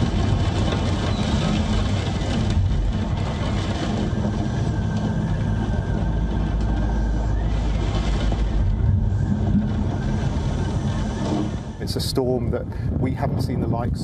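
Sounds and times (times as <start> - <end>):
deep rumbling noise: 0.0 - 14.0.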